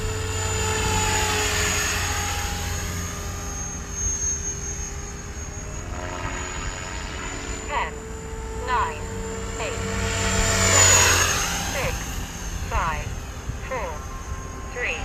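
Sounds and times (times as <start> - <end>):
helicopter rotor blades beating: 0.0 - 15.0
high-pitched motor whine: 0.0 - 15.0.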